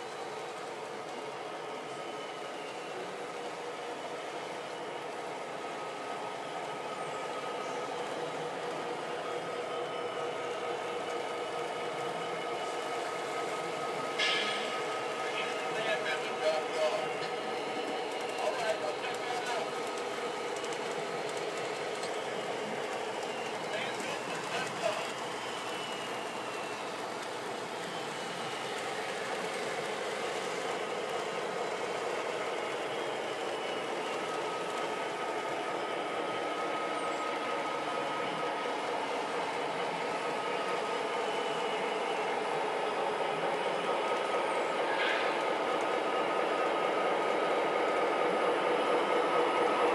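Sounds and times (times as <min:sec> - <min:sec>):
model train motors whirring: 0:00.0 - 0:49.9.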